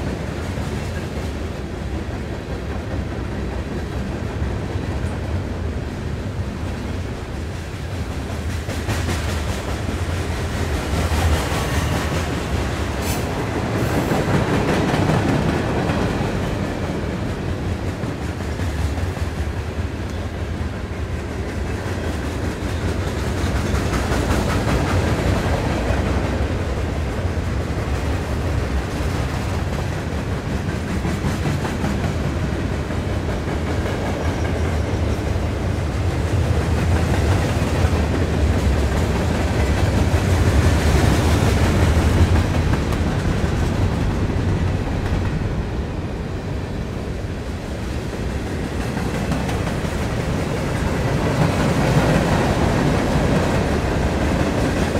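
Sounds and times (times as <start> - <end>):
train rolling past: 0.0 - 54.9.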